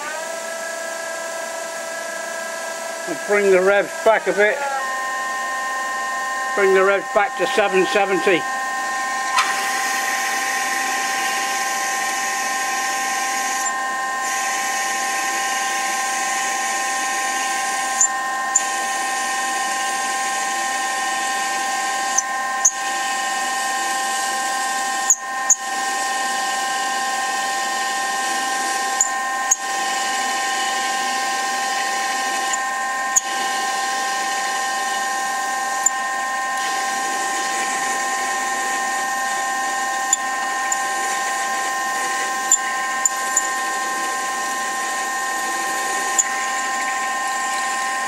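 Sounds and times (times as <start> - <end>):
lathe drilling steel whine: 0.0 - 48.0.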